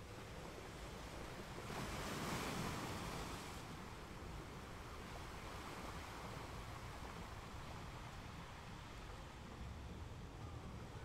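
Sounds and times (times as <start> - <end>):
gentle ocean waves: 0.0 - 11.0.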